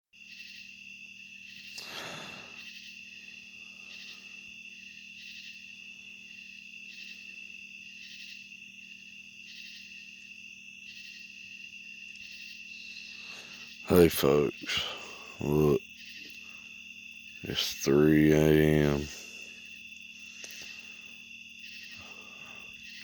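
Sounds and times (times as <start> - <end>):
crickets chirring: 0.2 - 23.0
pulsing insect call: 0.2 - 23.0
faint low hum: 1.4 - 23.0.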